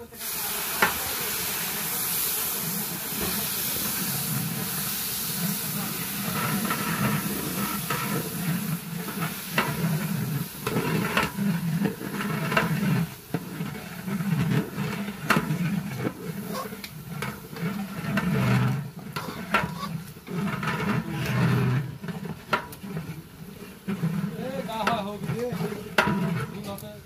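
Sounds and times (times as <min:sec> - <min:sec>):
food sizzling: 0:00.0 - 0:27.0
ladle scraping a metal pot: 0:00.2 - 0:27.0.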